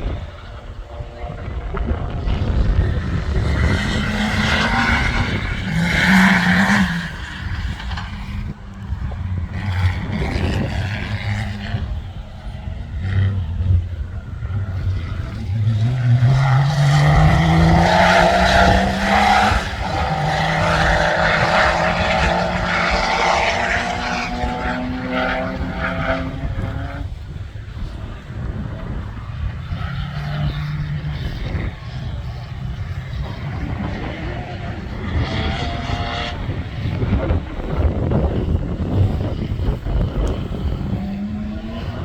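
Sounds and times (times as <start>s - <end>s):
vehicle engine accelerating: 0.0s - 42.0s.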